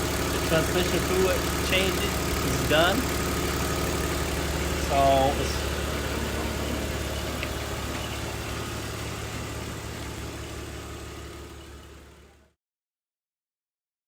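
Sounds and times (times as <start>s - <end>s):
car engine idling: 0.0s - 12.5s.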